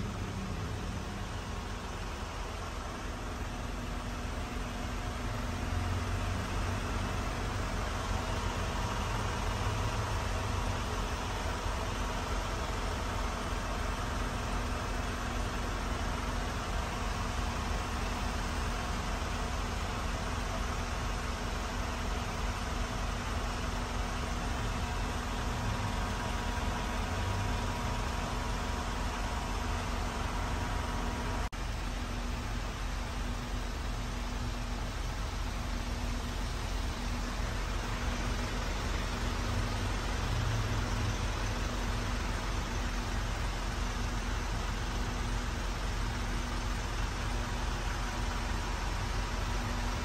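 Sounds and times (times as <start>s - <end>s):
diesel engine idling: 0.0s - 50.0s.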